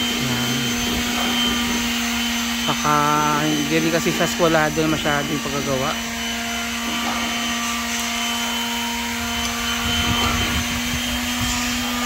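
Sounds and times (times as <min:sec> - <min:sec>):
motor running steadily: 0:00.0 - 0:12.0.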